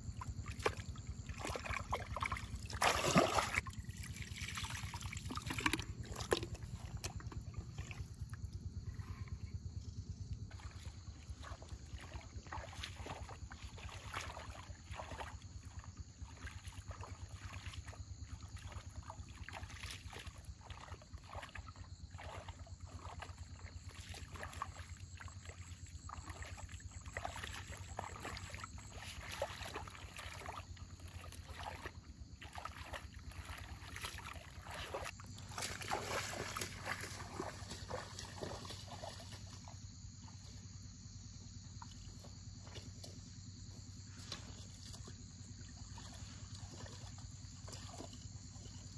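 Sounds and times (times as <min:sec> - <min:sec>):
steady low hum: 0:00.0 - 0:17.2, 0:21.6 - 0:48.9
water splashing and sloshing: 0:00.0 - 0:48.9.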